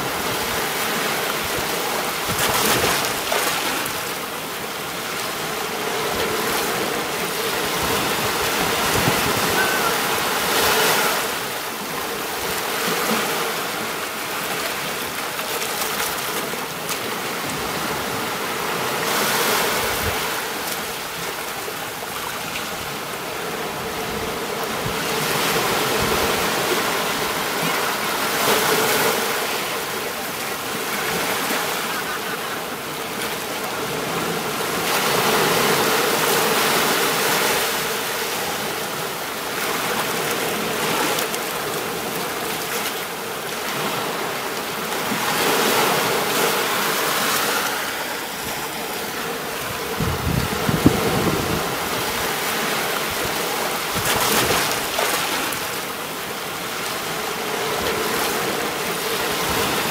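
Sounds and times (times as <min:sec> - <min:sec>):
sea waves washing onto beach: 0:00.0 - 0:59.9.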